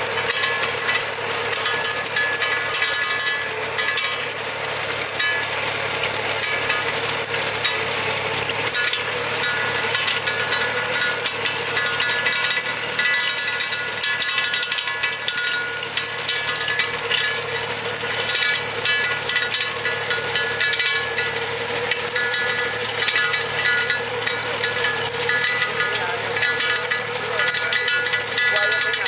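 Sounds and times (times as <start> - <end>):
chain elevator rattling: 0.0 - 29.0
tractor engine running: 0.0 - 29.0.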